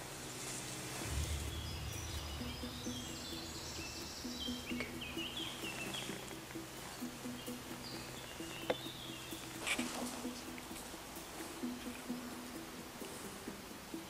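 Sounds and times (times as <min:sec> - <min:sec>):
low rumble: 0:00.6 - 0:12.7
small birds chirping: 0:00.7 - 0:14.0.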